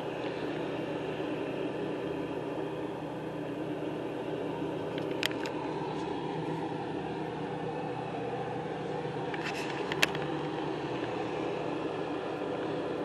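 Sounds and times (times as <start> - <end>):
steady machine drone: 0.0 - 13.0.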